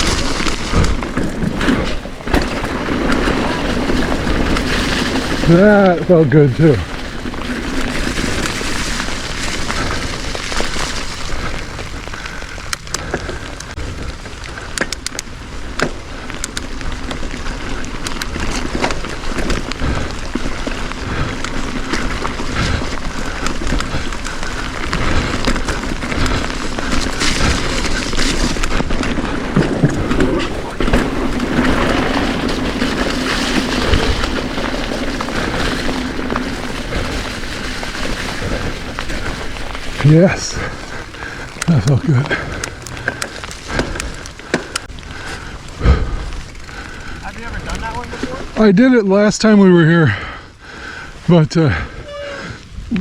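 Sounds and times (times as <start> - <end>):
wind buffeting microphone: 0.0 - 48.6
rolling trail noise: 0.0 - 53.0.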